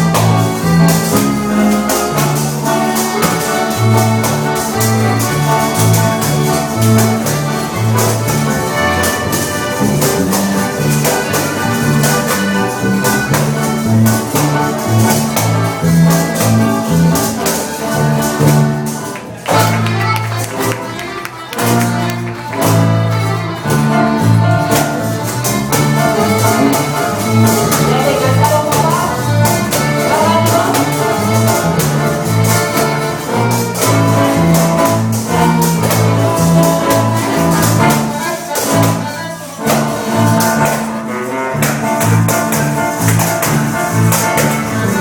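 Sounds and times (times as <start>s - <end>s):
polka band with accordion: 0.0s - 45.0s.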